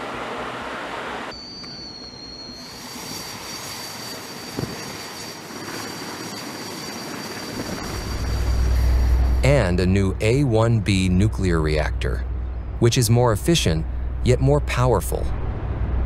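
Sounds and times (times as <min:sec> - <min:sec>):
high-pitched jet whine: 0:00.0 - 0:16.0.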